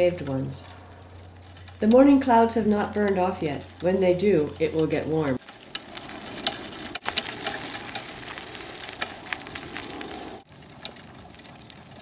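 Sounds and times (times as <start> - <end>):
wheels rolling on gravel: 0.0 - 12.0
wheels rolling on pavement: 0.0 - 12.0.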